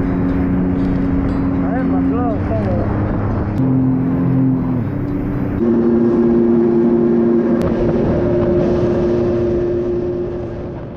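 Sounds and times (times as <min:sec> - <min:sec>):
jet ski engine: 0:00.0 - 0:10.9
water rushing: 0:00.0 - 0:10.9
wind on microphone: 0:00.0 - 0:10.9.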